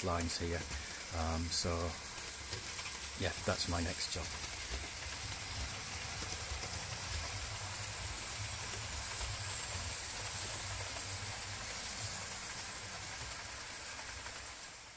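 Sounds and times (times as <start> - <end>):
model train running on track: 0.0 - 14.9.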